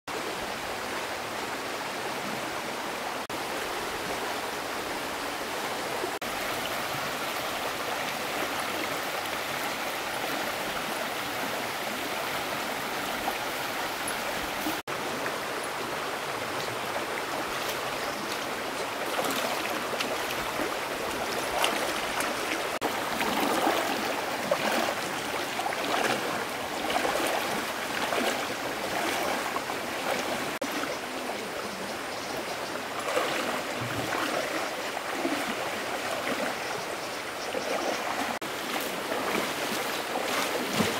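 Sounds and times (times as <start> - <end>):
water rushing and splashing: 0.1 - 40.9.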